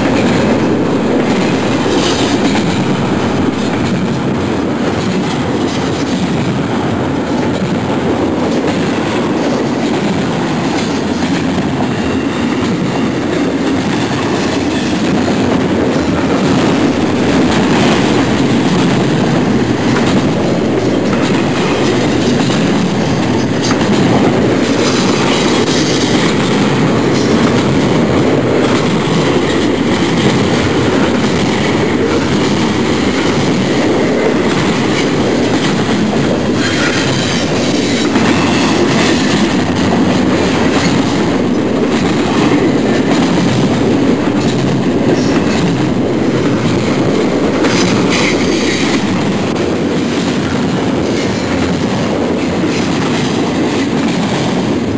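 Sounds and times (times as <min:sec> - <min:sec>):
steel train wheels rolling on rail: 0:00.0 - 0:54.9.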